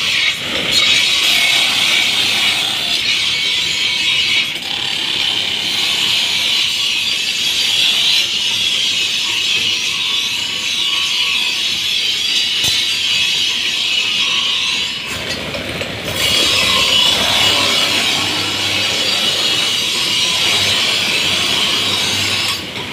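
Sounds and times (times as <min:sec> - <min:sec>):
grinding wheel sharpening blade: 0:00.0 - 0:22.9.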